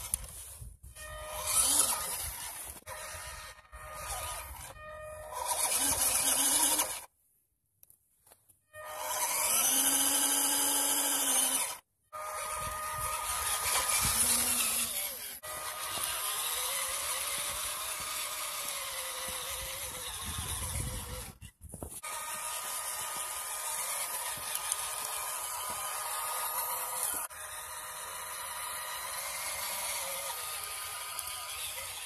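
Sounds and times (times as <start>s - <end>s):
toy truck electric motor whining: 0.0s - 7.1s, 8.7s - 32.0s.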